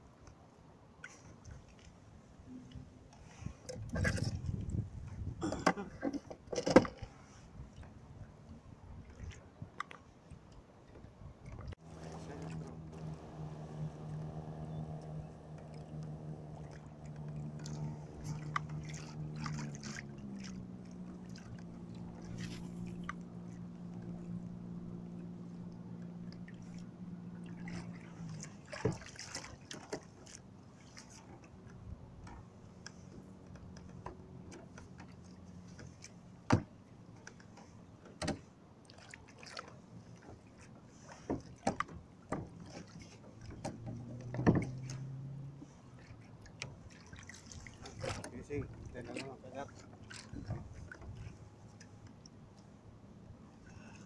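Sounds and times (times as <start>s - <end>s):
water sloshing around kayak: 0.0s - 54.0s.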